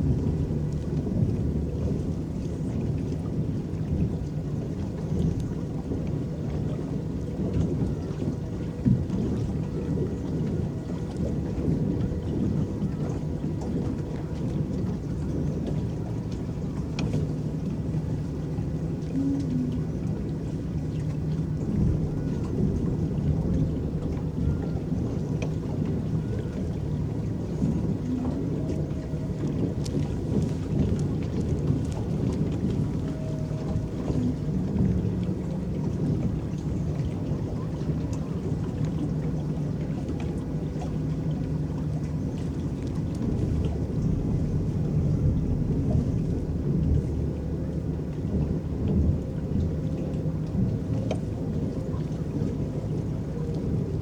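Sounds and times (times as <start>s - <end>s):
faint hum: 0.0s - 54.0s
paddles churning water: 0.0s - 54.0s.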